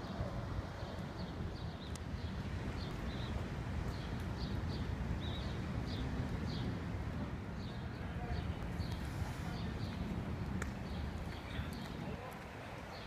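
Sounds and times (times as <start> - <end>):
street background rumble: 0.0 - 13.0
small birds chirping: 0.1 - 6.8, 7.5 - 12.1.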